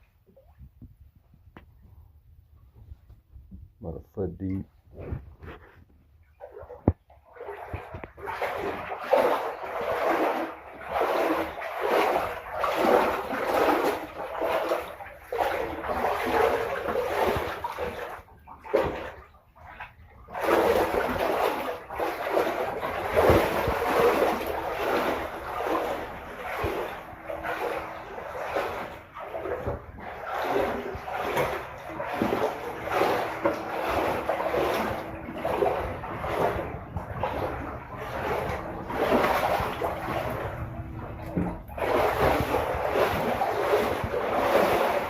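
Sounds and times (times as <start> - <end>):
wading through water splashing: 4.5 - 45.0.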